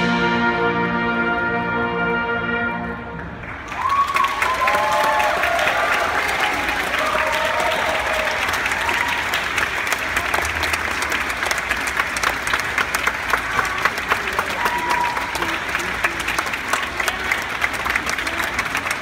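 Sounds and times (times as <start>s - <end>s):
audience applauding: 3.2s - 19.0s.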